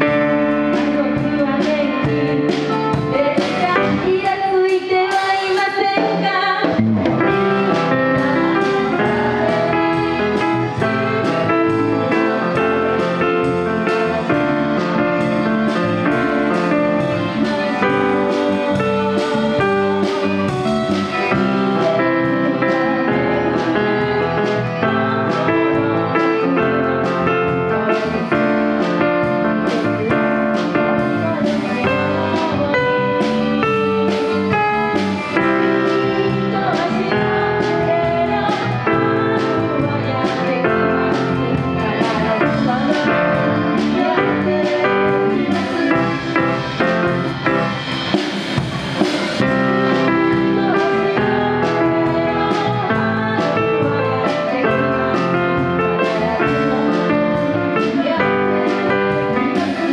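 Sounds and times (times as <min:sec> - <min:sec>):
electric bass: 0:00.0 - 0:04.5, 0:06.6 - 0:59.9
woman singing into microphone: 0:00.0 - 0:47.7, 0:49.0 - 0:59.9
electric guitar: 0:00.0 - 0:59.9.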